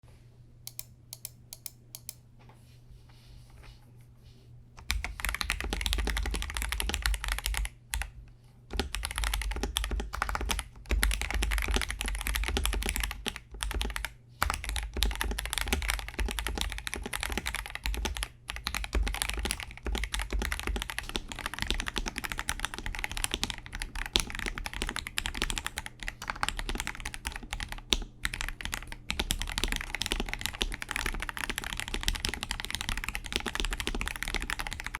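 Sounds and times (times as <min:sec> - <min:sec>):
mechanical keyboard typing: 0:00.7 - 0:02.2, 0:04.8 - 0:34.9.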